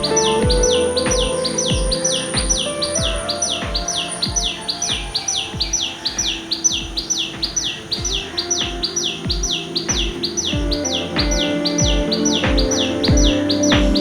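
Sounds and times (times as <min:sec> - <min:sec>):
music with low beat: 0:00.0 - 0:14.0.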